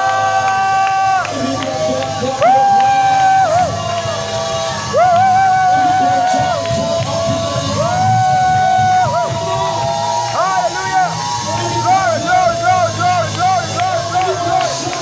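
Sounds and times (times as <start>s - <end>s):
congregation noise hum: 0.0s - 15.0s
worship music with held high notes: 0.0s - 15.0s.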